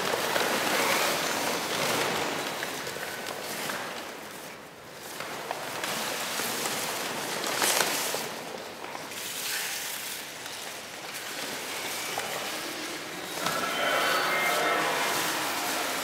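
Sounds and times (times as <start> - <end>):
paper rustling and crinkling: 0.0 - 13.7.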